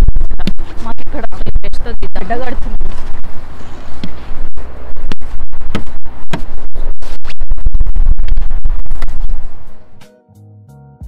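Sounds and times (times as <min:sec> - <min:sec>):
heavy low rumble: 0:00.0 - 0:10.0.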